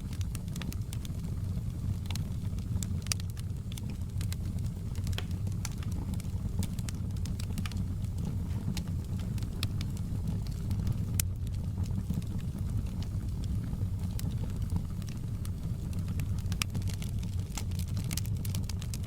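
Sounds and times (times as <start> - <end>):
fire flames rumbling: 0.0 - 19.0
wood crackling and popping: 0.0 - 19.0.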